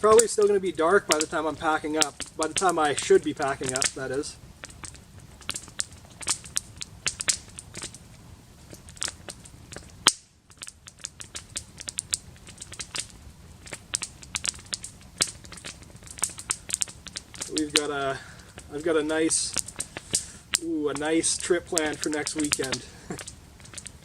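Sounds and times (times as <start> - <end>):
campfire crackling: 0.0 - 24.0
loud fire pop: 1.1 - 21.1, 21.8 - 24.0.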